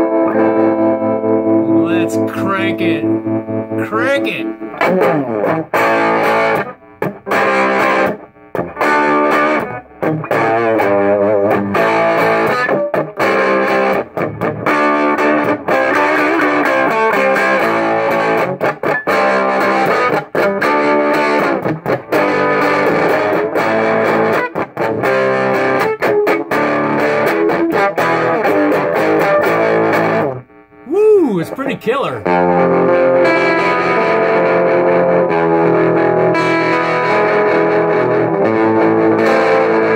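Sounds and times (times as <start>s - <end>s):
electric guitar with gritty tone: 0.0s - 39.9s.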